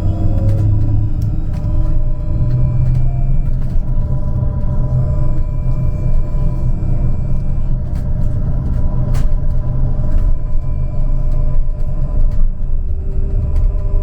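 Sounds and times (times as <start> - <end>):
trolleybus rumble and hum: 0.0 - 14.0.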